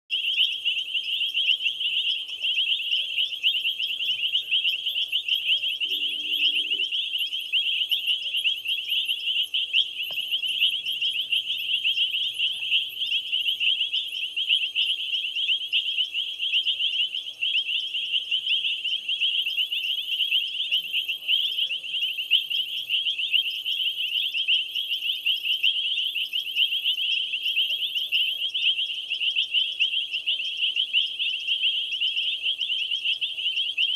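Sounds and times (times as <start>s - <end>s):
higher pulsed insect call: 0.1s - 33.9s
insects trilling: 0.1s - 33.9s.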